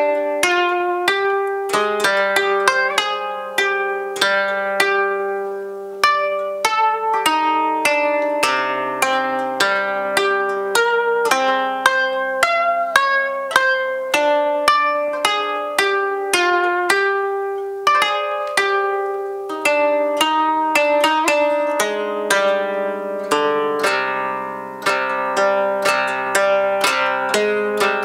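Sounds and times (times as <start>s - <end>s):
plucked zither notes: 0.0s - 28.0s.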